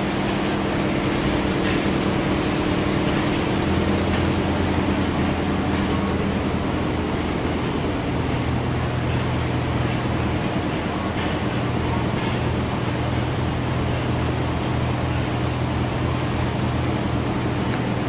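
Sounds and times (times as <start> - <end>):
engines droning steadily: 0.0 - 18.0.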